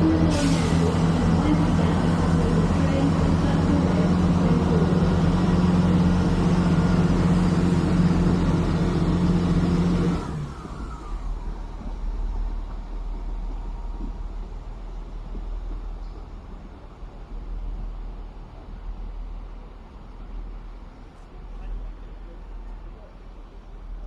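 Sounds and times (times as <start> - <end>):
train engine running: 0.0 - 24.0.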